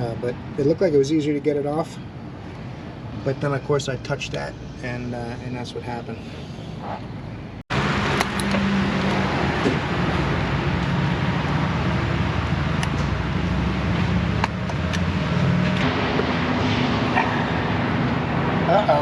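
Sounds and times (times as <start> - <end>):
car engine humming: 2.3 - 19.0.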